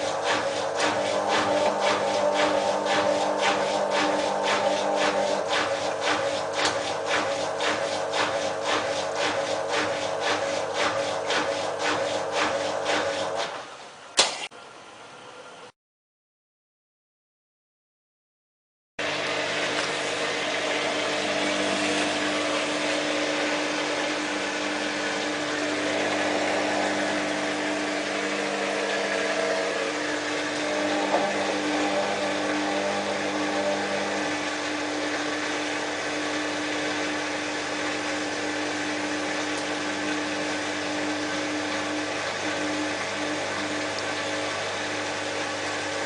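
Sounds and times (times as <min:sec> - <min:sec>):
washing machine water rushing: 0:00.0 - 0:14.5, 0:19.0 - 0:46.0
washing machine motor hum: 0:00.0 - 0:15.7, 0:19.0 - 0:46.0.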